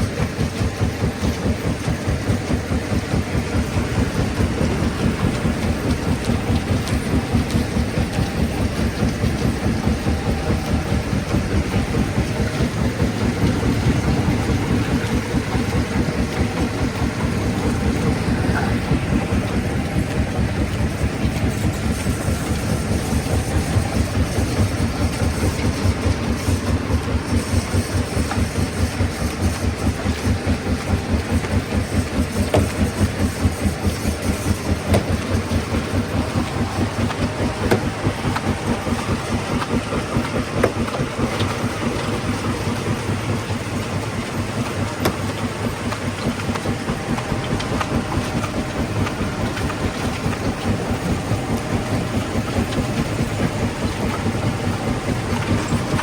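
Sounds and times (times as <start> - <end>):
stone crushing machinery pulsing: 0.0 - 56.0.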